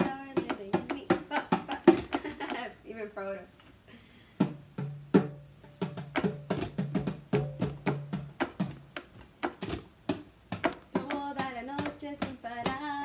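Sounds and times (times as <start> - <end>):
hand drum played: 0.0 - 2.6, 4.4 - 13.0.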